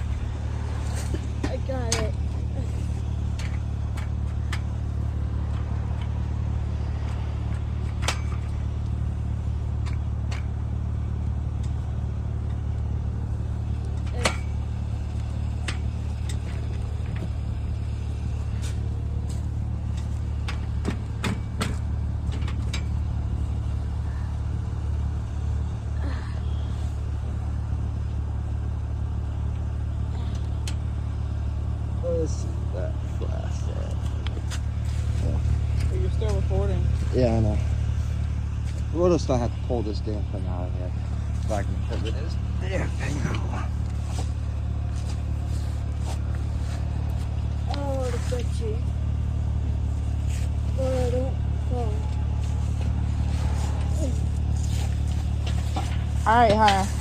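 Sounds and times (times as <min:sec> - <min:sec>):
low engine-like hum: 0:00.0 - 0:57.0.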